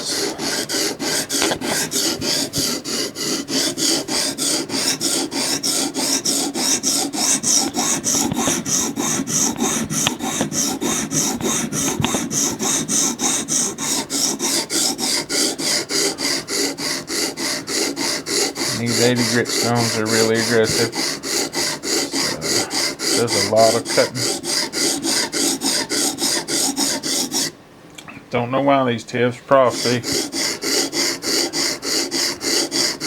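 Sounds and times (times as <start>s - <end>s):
sharpening stone rasping on knife: 0.0s - 27.5s, 29.7s - 33.0s.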